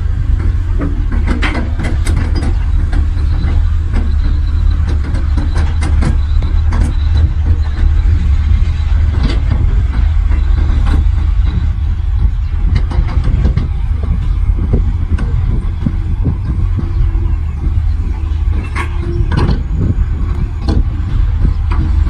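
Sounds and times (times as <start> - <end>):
diesel engine rumbling: 0.0 - 22.0
metallic clanks and knocks: 0.4 - 22.0.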